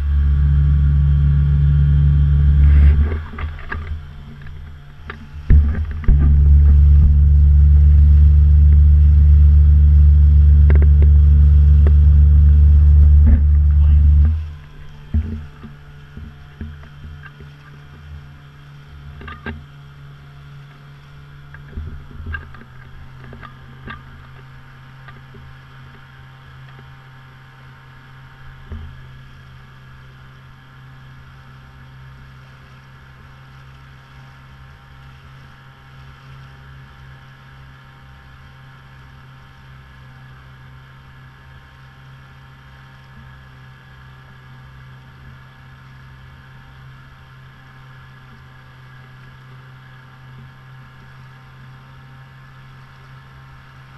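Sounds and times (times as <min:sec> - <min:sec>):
boat motor humming: 0:00.0 - 0:53.9.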